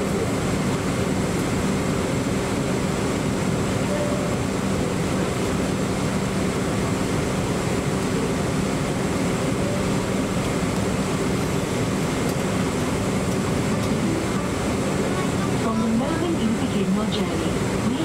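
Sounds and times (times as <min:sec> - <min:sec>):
aircraft systems low hum: 0:00.0 - 0:18.0.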